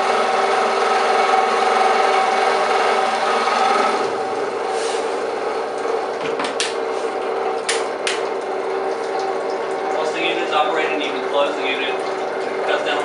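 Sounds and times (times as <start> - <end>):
high-pressure pump humming: 0.0 - 13.0.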